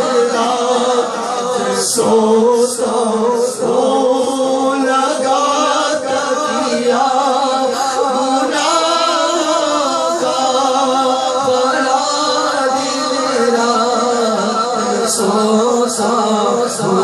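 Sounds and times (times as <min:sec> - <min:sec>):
man singing devotional song: 0:00.0 - 0:17.0.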